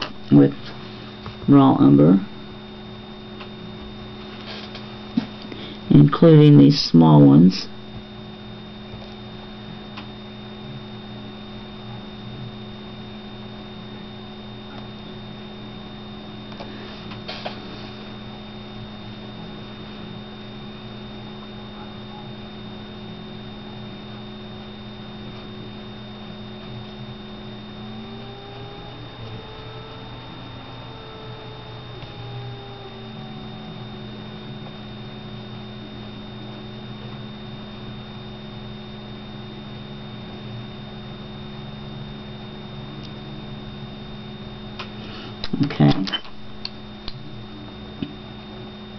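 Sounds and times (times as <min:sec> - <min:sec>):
electrical hum: 0:00.0 - 0:48.9.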